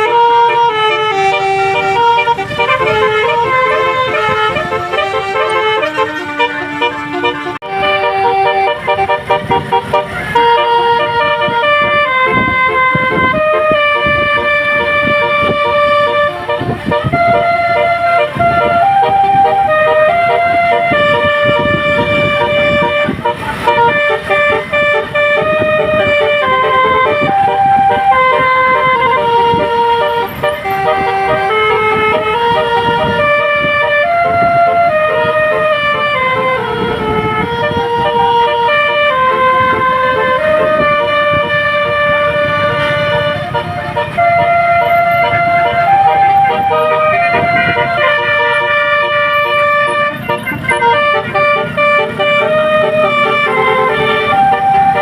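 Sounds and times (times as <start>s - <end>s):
multi-trumpet bus horn melody: 0.0s - 55.0s.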